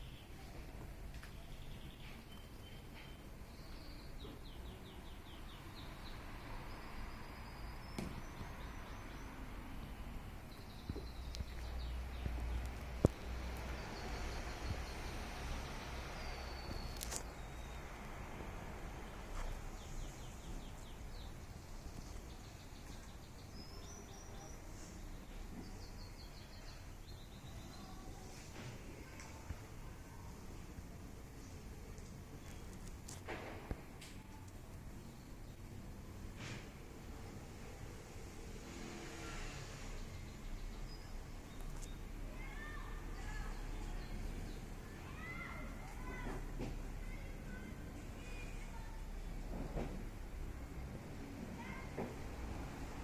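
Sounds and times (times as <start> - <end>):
small birds chirping: 0.0 - 36.2, 40.0 - 46.3
low outdoor background hum: 0.0 - 53.0.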